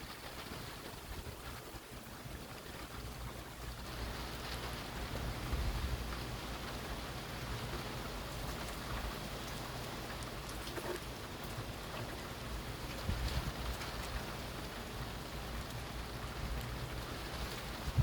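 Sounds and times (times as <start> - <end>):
rain drops ticking: 0.0 - 18.0.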